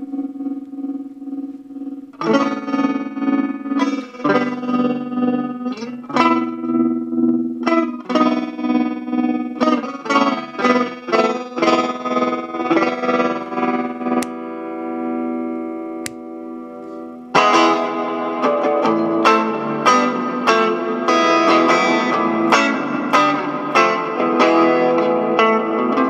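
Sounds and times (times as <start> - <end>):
distorted electric guitar chords: 0.0 - 26.0.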